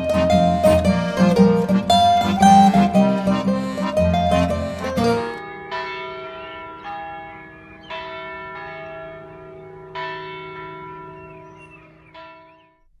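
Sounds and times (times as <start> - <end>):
church bell tolling: 0.0 - 12.7.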